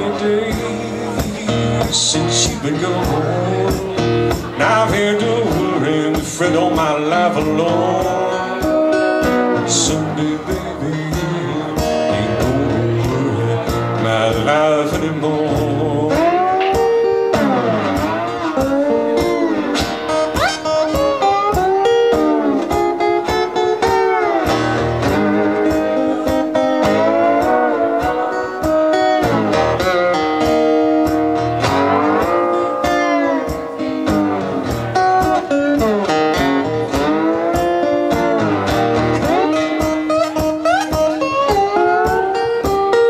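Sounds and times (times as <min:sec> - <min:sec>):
acoustic slide guitar blues: 0:00.0 - 0:43.0.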